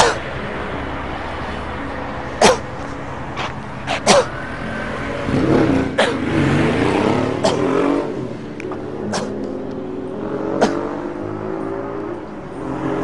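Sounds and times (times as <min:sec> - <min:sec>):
car engine revving: 0:00.0 - 0:13.0
street traffic: 0:00.0 - 0:13.0.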